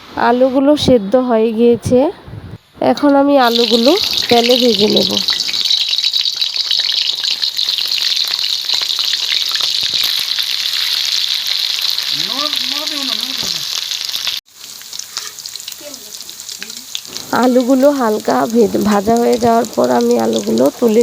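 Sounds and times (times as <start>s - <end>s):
potatoes sizzling in hot oil: 3.1s - 21.0s.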